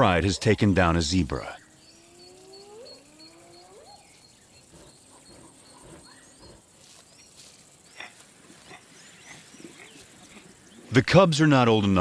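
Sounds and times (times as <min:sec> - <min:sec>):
bird chirps: 0:00.0 - 0:12.0
faint animal sounds: 0:00.0 - 0:12.0.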